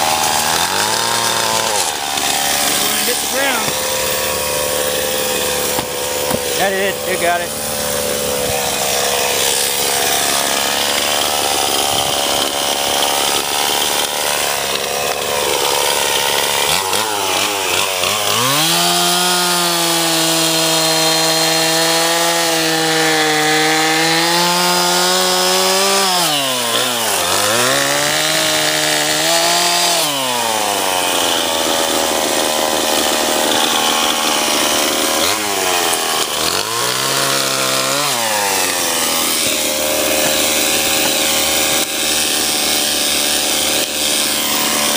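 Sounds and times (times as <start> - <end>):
chainsaw cutting through wood: 0.0 - 44.9
chainsaw revving: 0.0 - 44.9.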